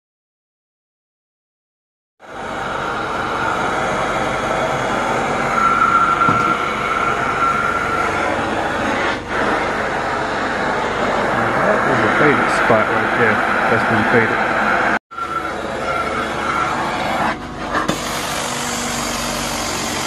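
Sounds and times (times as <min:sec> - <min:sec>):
carpet cleaning machine running: 0:02.2 - 0:20.0.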